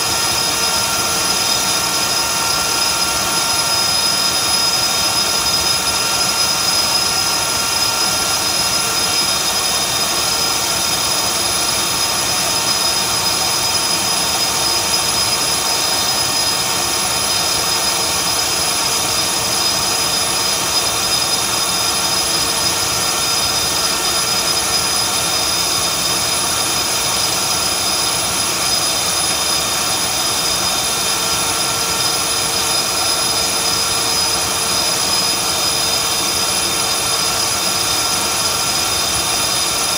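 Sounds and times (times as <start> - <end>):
high motor whine: 0.0 - 39.9.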